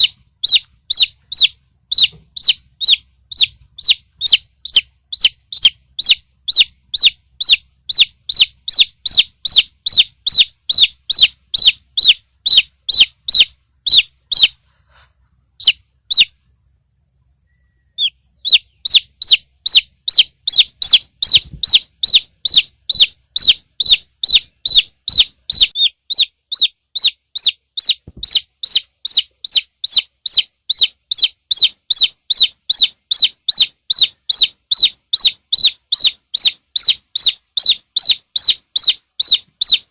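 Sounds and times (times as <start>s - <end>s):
chick peeping: 0.0s - 14.6s, 15.5s - 16.4s, 17.4s - 39.9s.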